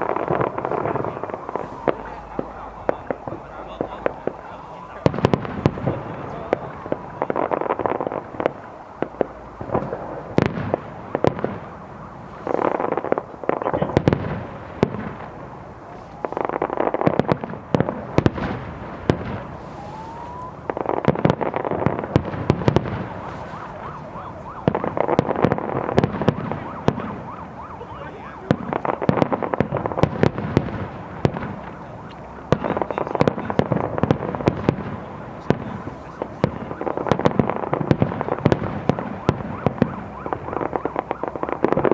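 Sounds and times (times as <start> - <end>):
fireworks bangs and crackling: 0.0 - 41.9
rising firework whistle: 0.0 - 41.9.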